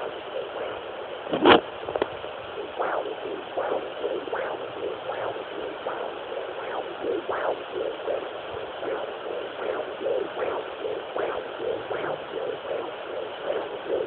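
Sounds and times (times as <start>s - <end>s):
rhythmic whooshing heartbeat pulse: 0.0s - 14.0s
steady hiss: 0.0s - 14.0s.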